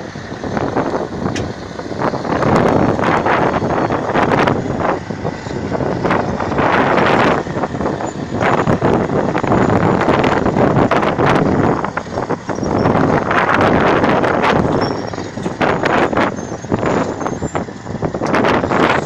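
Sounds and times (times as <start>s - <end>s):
vehicle noise: 0.0s - 19.0s
wind buffeting microphone: 0.0s - 19.0s.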